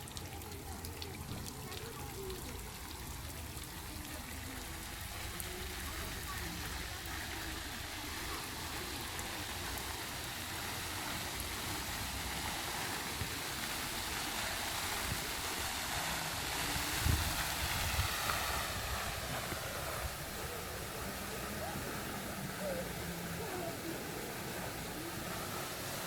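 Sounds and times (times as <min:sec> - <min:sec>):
brine trickling down brushwood walls: 0:00.0 - 0:26.0.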